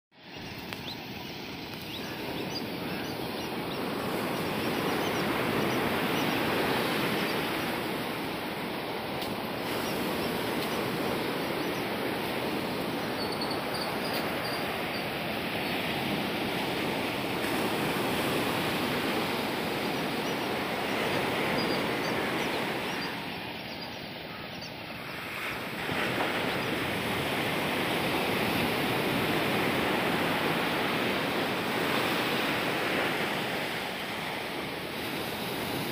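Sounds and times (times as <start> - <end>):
ocean surf breaking on beach: 0.2 - 35.9.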